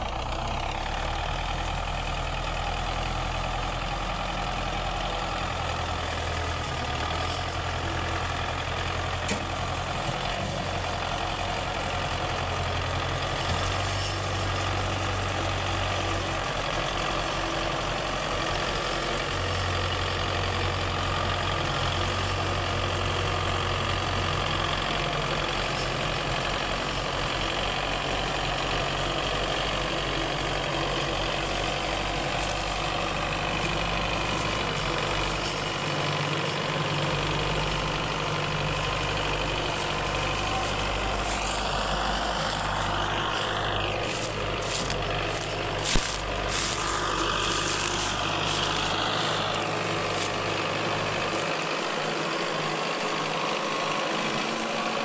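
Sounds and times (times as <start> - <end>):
tractor diesel engine working hard: 0.0 - 55.0.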